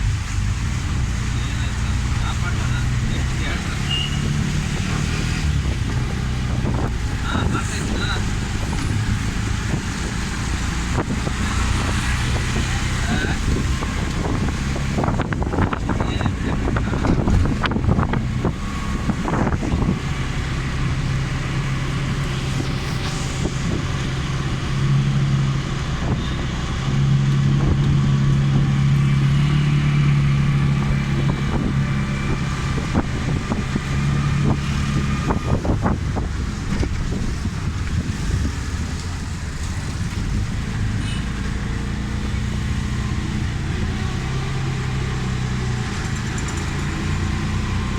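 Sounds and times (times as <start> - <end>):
vehicle engine with road noise: 0.0 - 47.9.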